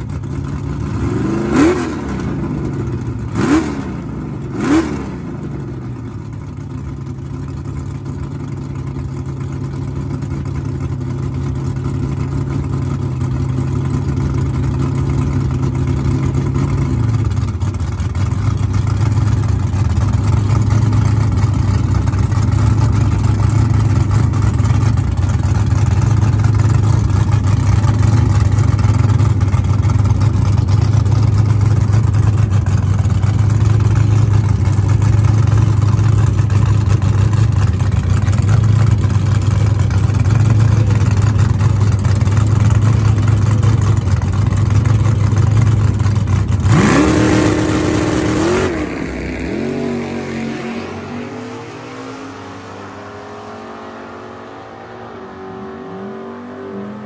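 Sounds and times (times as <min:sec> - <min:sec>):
car engine idling: 0:00.0 - 0:53.5.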